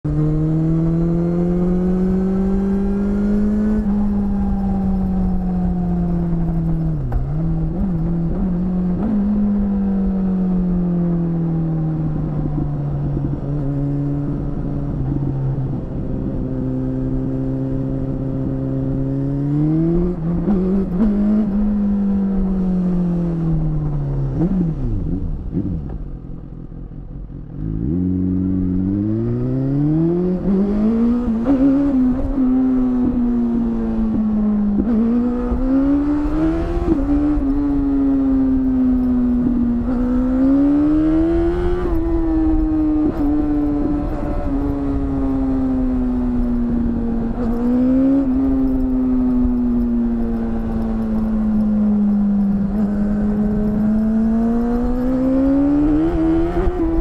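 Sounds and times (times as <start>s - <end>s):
motorcycle engine revving: 0.0s - 26.2s, 27.5s - 57.0s
wind rushing over microphone: 0.1s - 26.3s, 26.9s - 57.0s.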